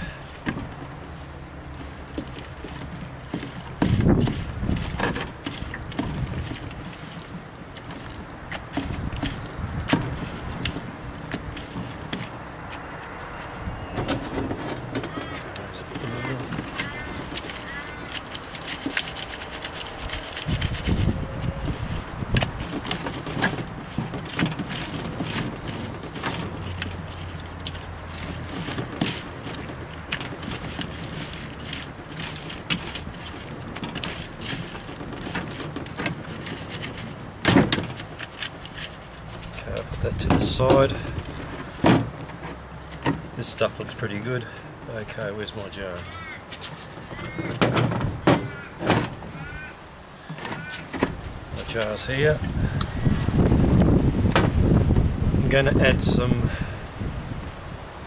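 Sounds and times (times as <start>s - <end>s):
mud scraping through metal sieves: 0.0s - 56.8s.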